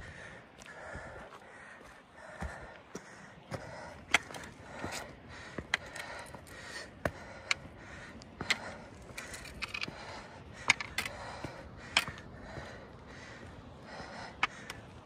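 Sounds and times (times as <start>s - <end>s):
person breathing: 0.0s - 15.0s
boots on rocky trail: 0.1s - 14.8s.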